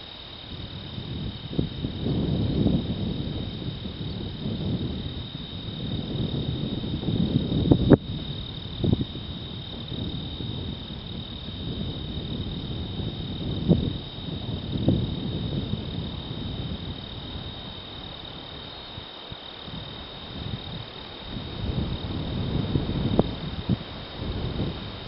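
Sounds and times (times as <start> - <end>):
high-pitched insect chorus: 0.0 - 25.0
wind buffeting microphone: 0.0 - 25.0.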